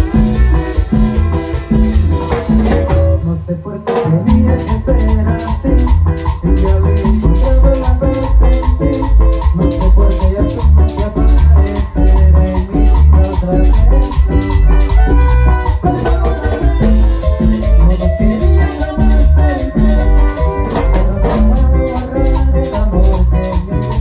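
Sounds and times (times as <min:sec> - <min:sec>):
band playing cumbia: 0:00.0 - 0:24.0
upright bass line: 0:00.0 - 0:24.0.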